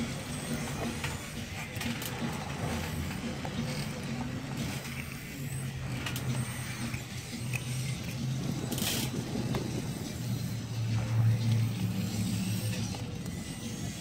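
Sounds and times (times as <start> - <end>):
small electric motors humming: 0.0 - 14.0.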